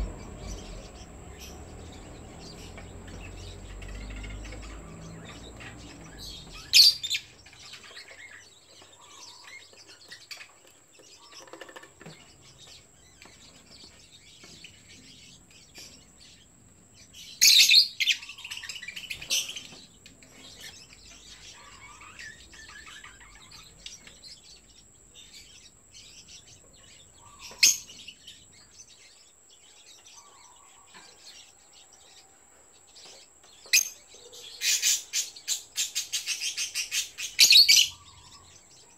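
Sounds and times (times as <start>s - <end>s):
lovebirds high-pitched calls: 0.0s - 38.9s.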